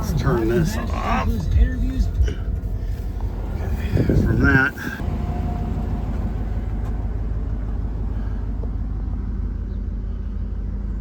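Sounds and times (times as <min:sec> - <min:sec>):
engine idling with low rumble: 0:00.0 - 0:11.0.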